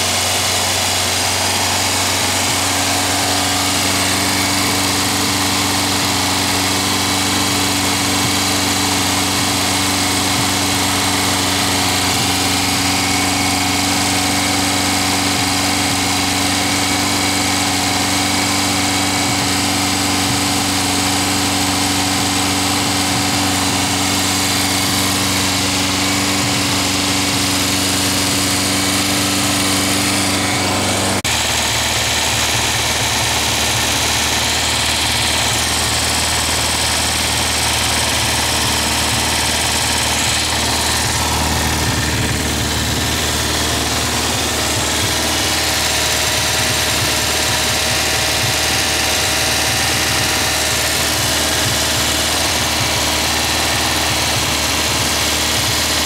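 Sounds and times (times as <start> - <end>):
car engine running fast: 0.0 - 56.0.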